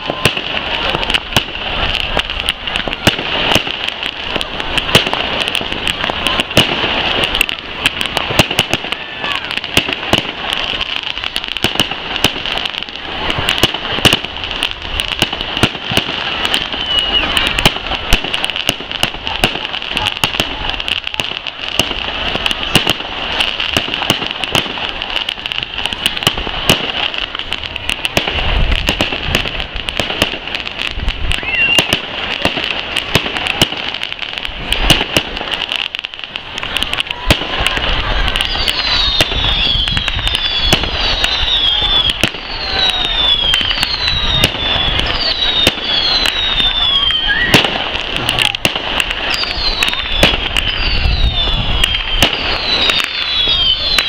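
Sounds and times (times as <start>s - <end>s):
fireworks popping and banging: 0.0s - 54.0s.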